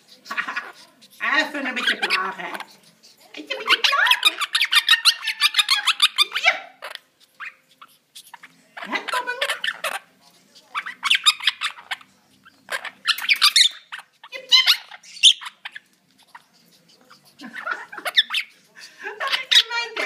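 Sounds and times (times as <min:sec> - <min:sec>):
parrots chattering and squawking: 0:00.0 - 0:20.0.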